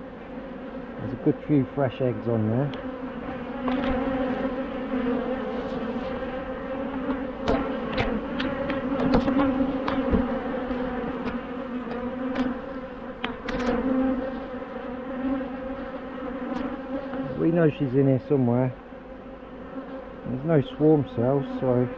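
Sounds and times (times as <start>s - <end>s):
honeybees humming: 0.0s - 21.9s.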